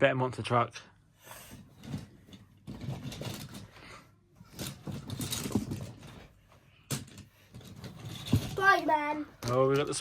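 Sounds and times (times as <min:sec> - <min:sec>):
toy trucks clattering and scraping: 0:01.4 - 0:10.0.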